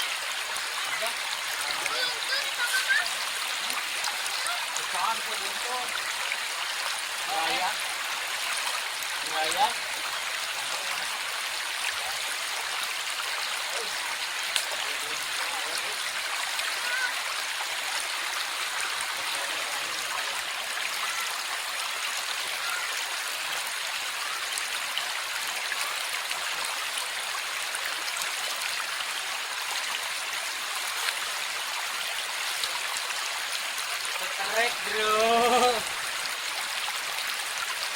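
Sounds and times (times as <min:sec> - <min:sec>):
river water flowing: 0:00.0 - 0:37.9.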